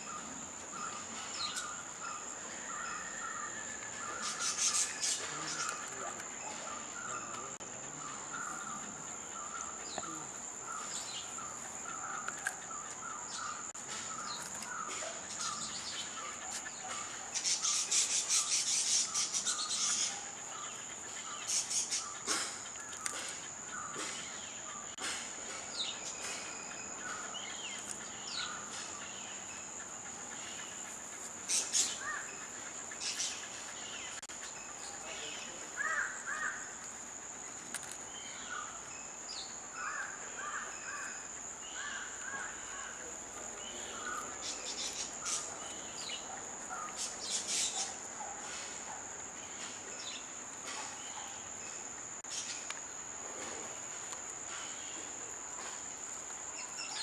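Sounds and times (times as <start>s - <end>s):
birds calling harshly: 0.0s - 38.9s, 39.5s - 52.8s
high insect drone: 0.0s - 57.0s.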